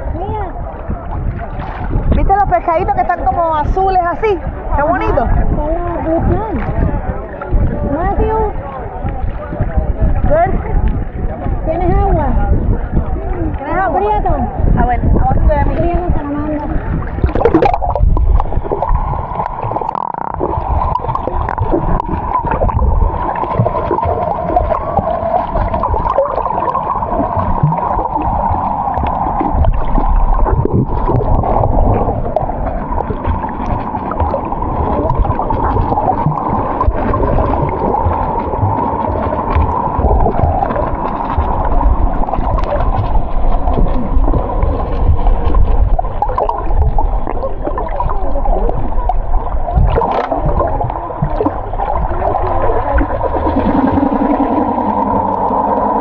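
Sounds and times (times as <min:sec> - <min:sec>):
low rumble: 0:00.0 - 0:56.0
water rushing and gurgling: 0:00.0 - 0:56.0
even hum: 0:04.4 - 0:56.0.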